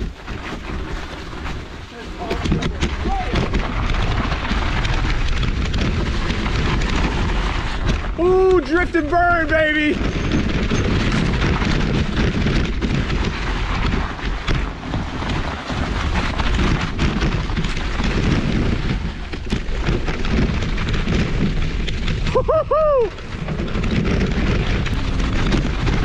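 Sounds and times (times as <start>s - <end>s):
bike knocks and rattles: 0.0s - 26.0s
bike tyre rumble: 0.0s - 26.0s
wind buffeting microphone: 0.0s - 26.0s.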